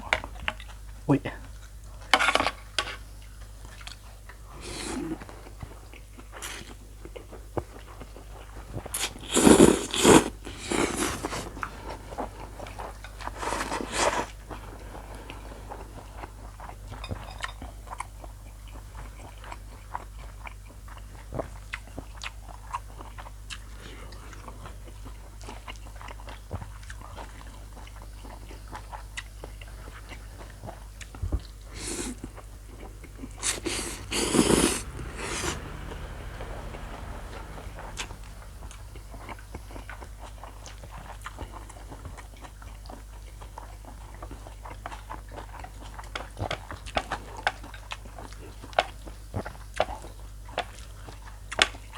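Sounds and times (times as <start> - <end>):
chewing and biting: 0.1 - 51.9.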